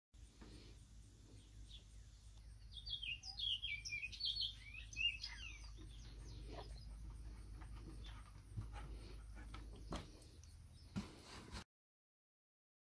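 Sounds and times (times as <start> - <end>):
songbirds chirping: 0.2 - 11.6.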